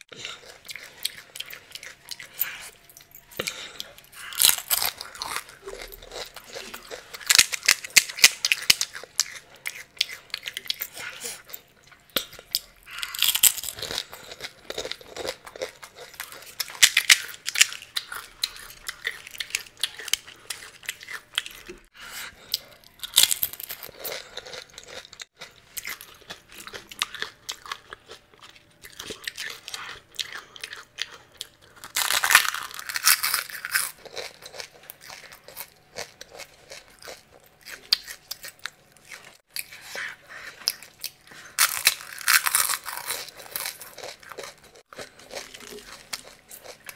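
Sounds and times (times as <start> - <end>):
crunching crisp shells: 0.7 - 10.9, 12.1 - 21.6, 22.9 - 39.8, 40.6 - 46.9.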